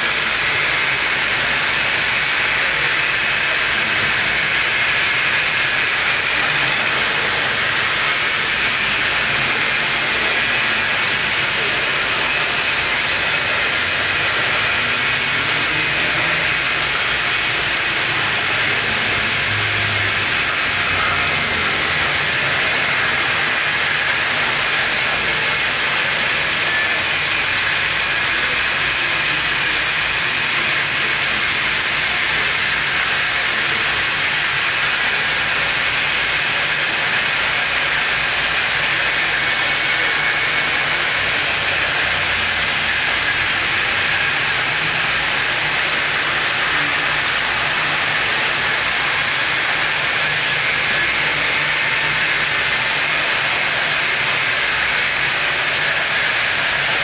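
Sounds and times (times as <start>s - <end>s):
steady hissing noise: 0.0s - 57.0s.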